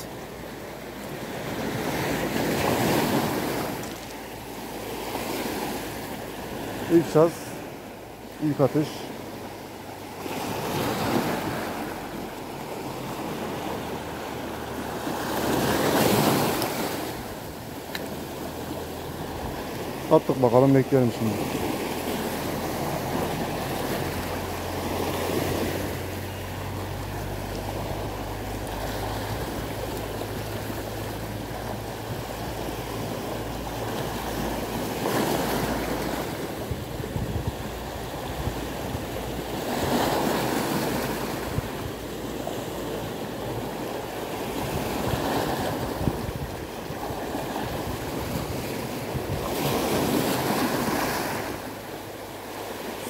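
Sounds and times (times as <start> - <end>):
waves washing over rocks: 0.0 - 53.0.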